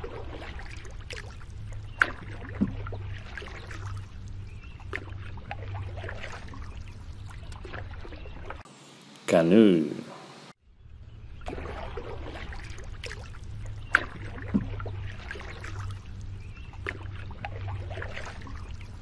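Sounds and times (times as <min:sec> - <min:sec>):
paddle splashing in water: 0:00.0 - 0:08.6, 0:11.4 - 0:19.0.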